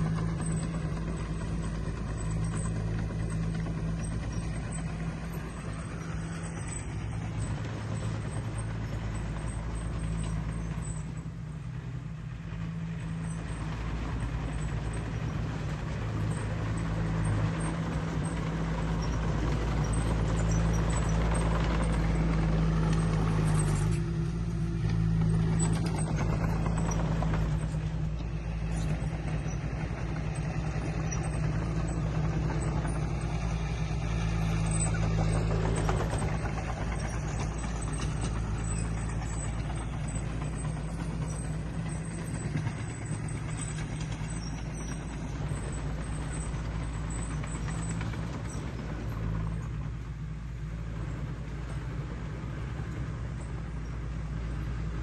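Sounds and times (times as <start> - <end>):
diesel engine low hum: 0.0 - 55.0.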